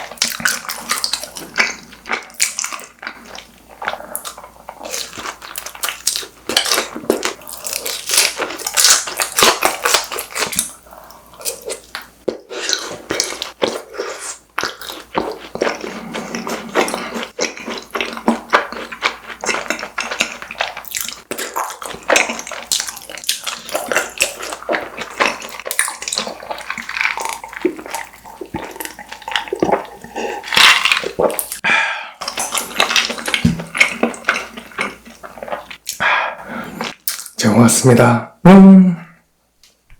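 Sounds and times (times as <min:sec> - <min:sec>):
wet chewing: 0:00.0 - 0:31.6, 0:32.2 - 0:36.1.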